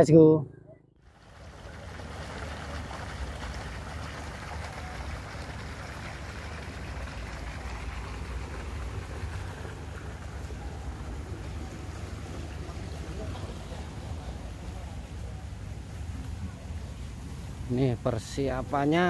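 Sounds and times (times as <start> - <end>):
steady low rumble: 0.7 - 18.8
water gushing from hose: 1.0 - 19.0.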